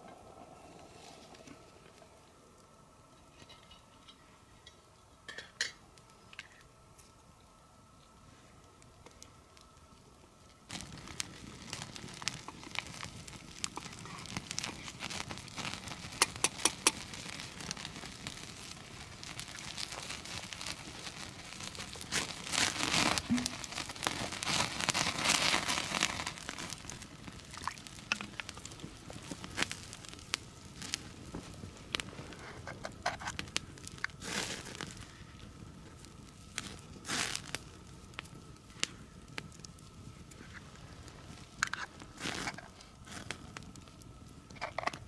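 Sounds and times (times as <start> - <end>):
campfire crackling: 0.0 - 45.0
sharp fire snaps: 5.8 - 45.0.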